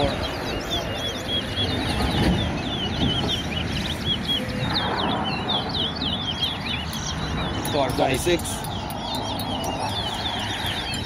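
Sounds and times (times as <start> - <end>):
finches whistling and chirping: 0.0 - 11.0.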